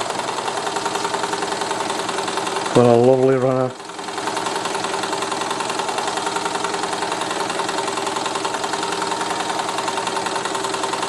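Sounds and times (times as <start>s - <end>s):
toy steam engine beat: 0.1s - 11.0s.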